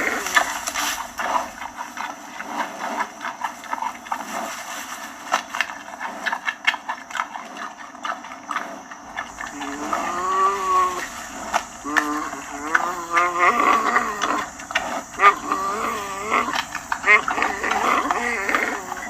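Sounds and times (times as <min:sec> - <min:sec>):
panda crunching bamboo: 0:00.0 - 0:19.0.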